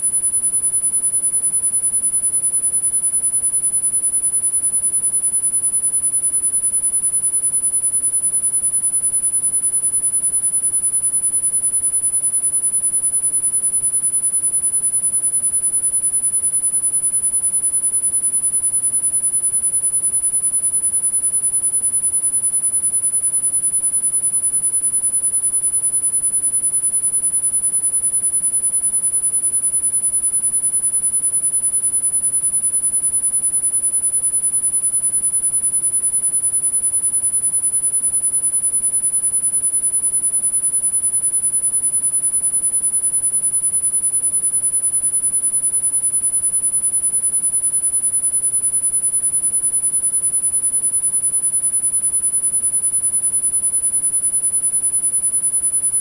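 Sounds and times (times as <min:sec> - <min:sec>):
high-pitched sine tone: 0:00.0 - 0:56.0.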